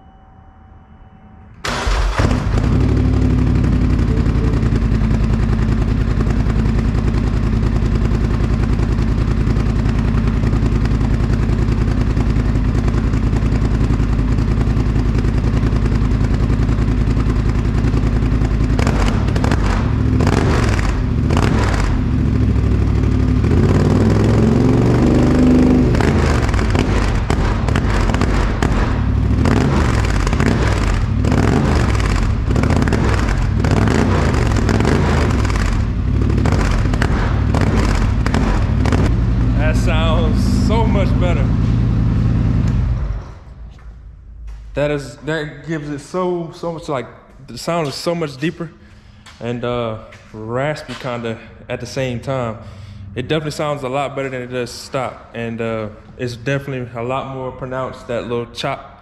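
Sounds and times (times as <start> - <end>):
engine idling and revving: 1.6 - 45.0, 50.8 - 58.6.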